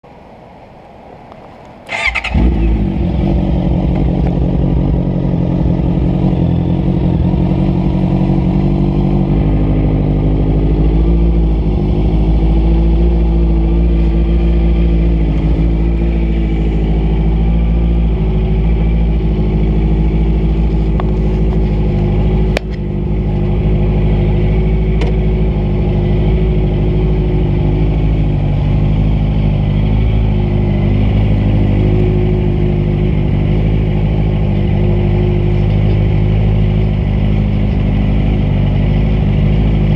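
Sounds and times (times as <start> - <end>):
motorcycle engine starting and idling: 1.8 - 39.9.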